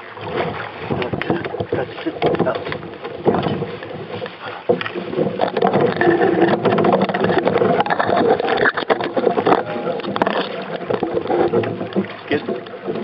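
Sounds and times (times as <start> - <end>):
water splashing against canoe hull: 0.0 - 13.0
close clicks and rustling: 0.9 - 13.0.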